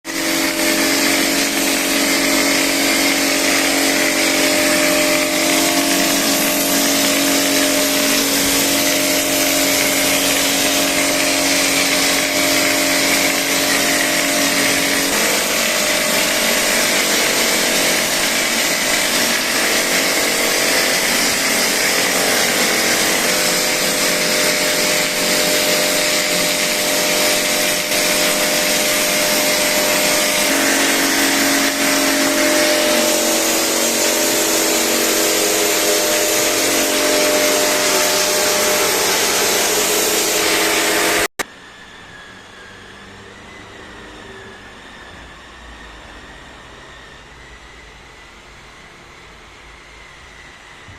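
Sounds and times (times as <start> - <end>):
air hissing from plaster sprayer: 0.1 - 41.4
motor hum: 0.1 - 42.7.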